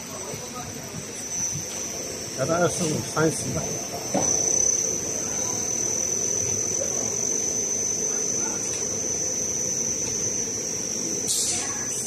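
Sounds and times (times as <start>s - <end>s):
high-pitched electrical whine: 0.0s - 12.0s
low motor hum: 0.0s - 12.0s.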